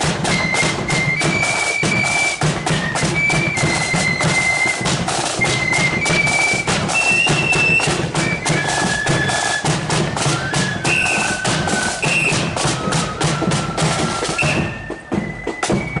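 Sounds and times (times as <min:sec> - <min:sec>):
flute melody: 0:00.0 - 0:16.0
marching drums with bass drum: 0:00.0 - 0:16.0.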